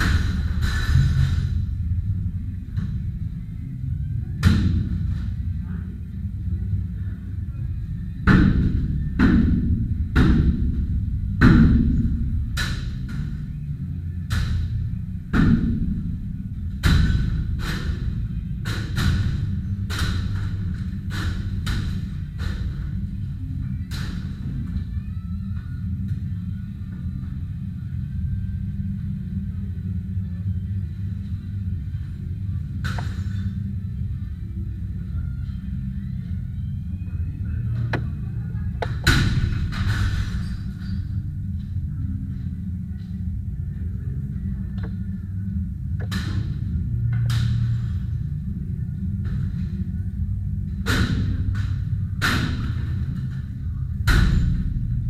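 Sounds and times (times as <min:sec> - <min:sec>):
background music: 0:00.0 - 0:55.0
steady low rumble: 0:00.0 - 0:55.0.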